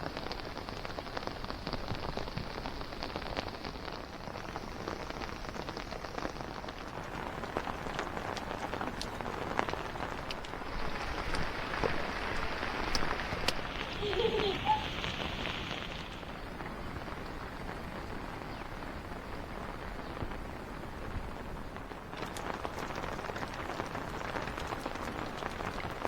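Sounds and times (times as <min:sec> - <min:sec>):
rain falling: 0:00.0 - 0:26.0
raindrops ticking on surfaces: 0:00.0 - 0:26.0.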